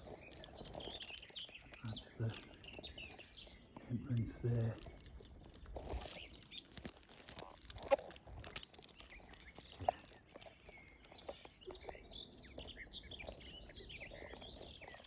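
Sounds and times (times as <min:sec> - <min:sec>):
foliage rustling: 0:00.0 - 0:13.4
small birds trilling: 0:00.0 - 0:15.0.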